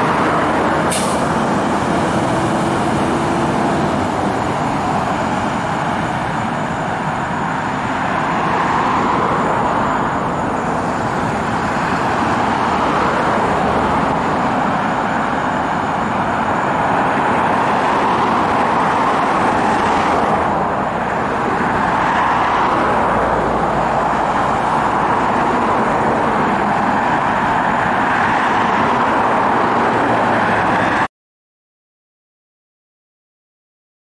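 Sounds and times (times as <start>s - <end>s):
road traffic noise: 0.0s - 31.1s.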